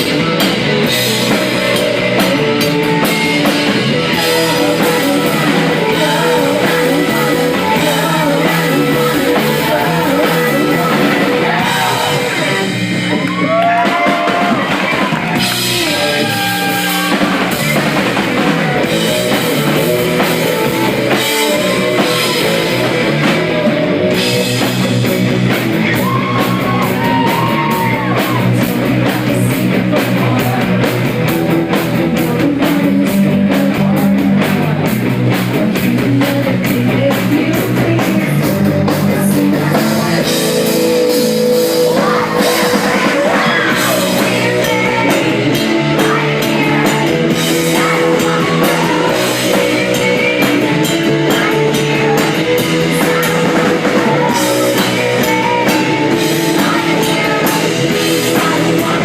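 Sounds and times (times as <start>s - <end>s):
person singing: 0.0s - 12.8s, 13.4s - 24.2s, 25.8s - 59.0s
rock band playing live: 0.0s - 59.0s.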